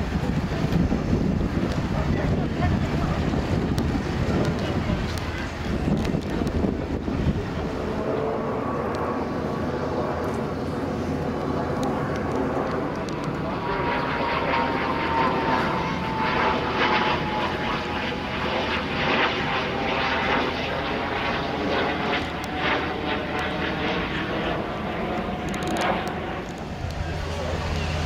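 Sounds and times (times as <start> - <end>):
engine drone with falling whine: 0.0 - 28.0
outdoor noise: 0.0 - 28.0.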